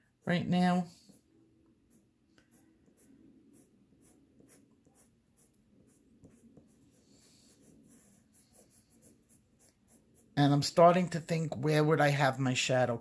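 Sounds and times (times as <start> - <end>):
colored pencil scratching on paper: 0.2 - 11.2.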